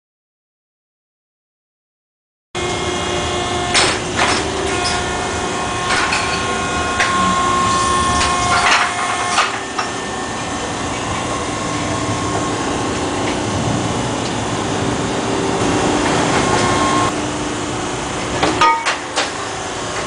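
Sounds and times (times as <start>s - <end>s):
mechanical hum with whining tones: 2.6s - 20.0s.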